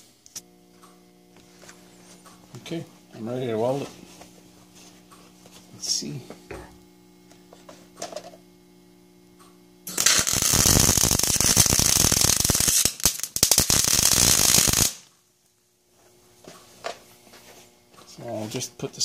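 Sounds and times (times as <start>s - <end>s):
welding arc crackling: 0.0s - 15.7s
steady low hum: 0.0s - 19.0s.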